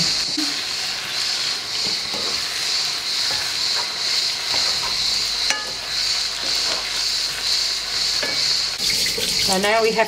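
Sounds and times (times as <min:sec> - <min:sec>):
vegetables sizzling in frying pan: 0:00.0 - 0:10.0.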